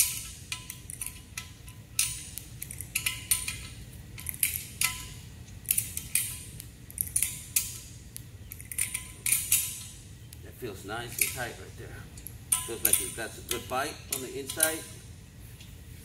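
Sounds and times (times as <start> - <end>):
wrench clicking on metal bolts: 0.0 - 10.0, 10.9 - 11.6, 12.2 - 15.0.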